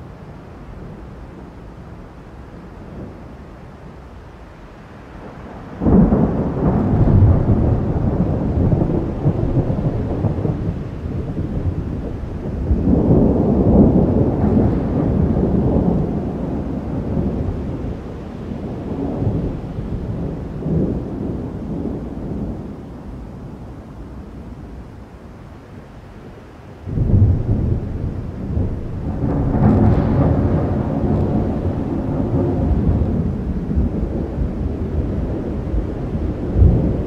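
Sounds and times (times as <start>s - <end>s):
steady rain: 0.0s - 37.0s
thunder rumbling: 5.1s - 24.9s, 26.8s - 37.0s.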